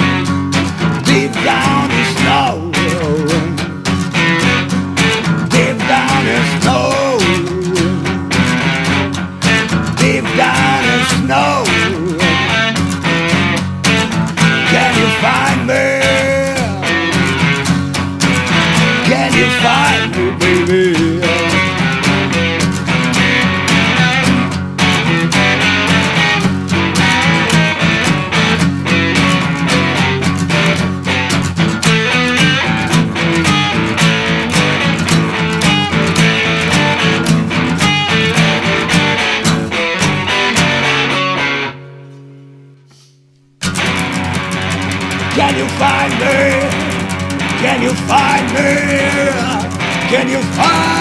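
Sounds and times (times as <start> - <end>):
drums steady beat: 0.0 - 40.8, 43.6 - 51.0
rock guitars: 0.0 - 51.0.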